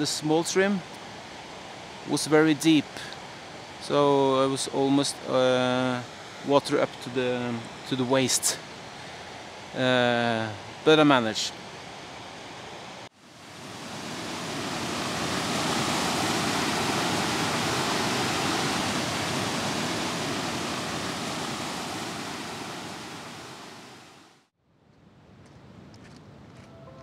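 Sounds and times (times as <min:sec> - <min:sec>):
rushing stream water: 0:00.0 - 0:24.5.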